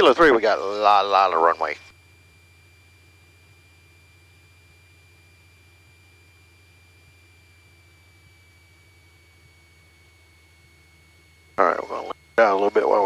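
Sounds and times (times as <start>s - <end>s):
high-pitched electrical whine: 0.0s - 13.0s
low hum: 0.0s - 13.0s.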